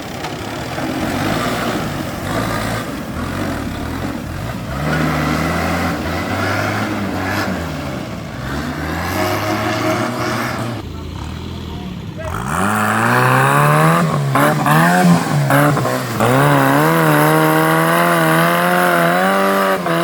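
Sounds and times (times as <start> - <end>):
tractor engine revving: 0.0 - 20.0.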